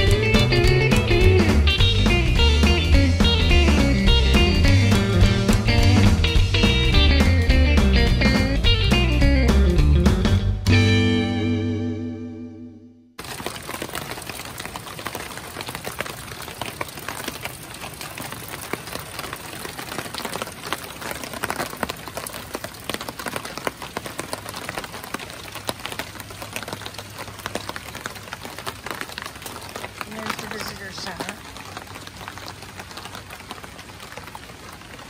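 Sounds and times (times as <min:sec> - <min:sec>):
steady rain falling: 0:00.0 - 0:09.7, 0:13.2 - 0:35.0.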